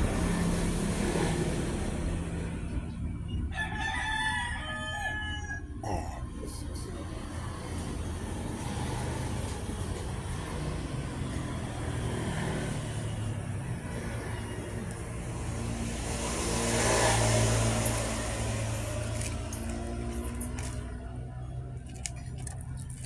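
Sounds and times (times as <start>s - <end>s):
vehicle engine passing: 0.0s - 3.6s, 6.8s - 23.0s.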